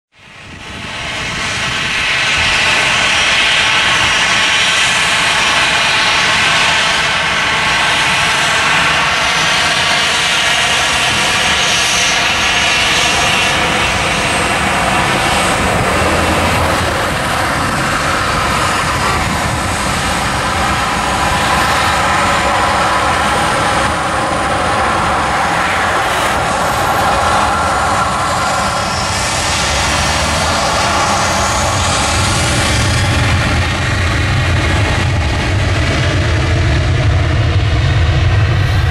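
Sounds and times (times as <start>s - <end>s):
jet engine roaring with high whine: 0.1s - 38.9s.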